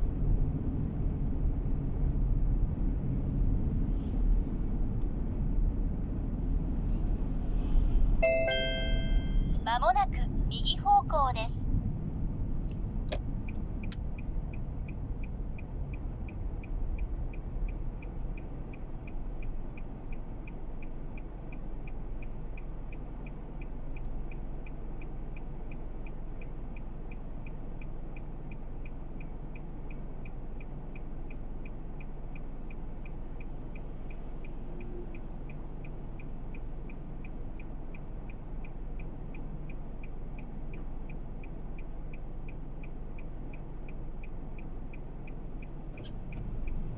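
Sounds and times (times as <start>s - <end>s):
car engine low rumble: 0.0s - 46.9s
turn signal ticking: 0.0s - 46.9s.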